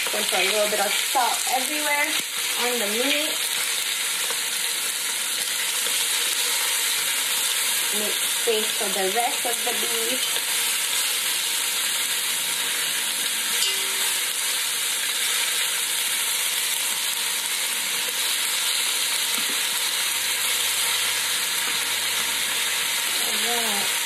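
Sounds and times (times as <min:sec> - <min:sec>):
meat and onions sizzling: 0:00.0 - 0:24.0.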